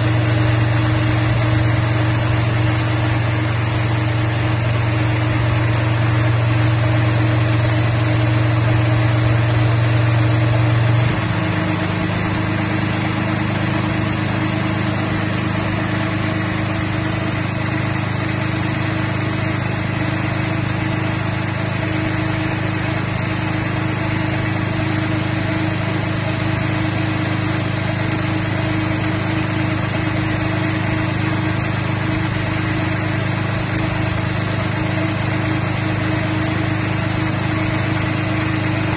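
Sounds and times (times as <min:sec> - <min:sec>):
tree shaker engine running: 0:00.0 - 0:38.9.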